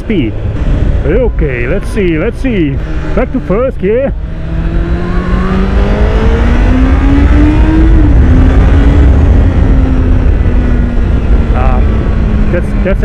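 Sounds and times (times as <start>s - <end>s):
motorcycle engine accelerating: 0.0s - 13.0s
wind and road rumble: 0.0s - 13.0s.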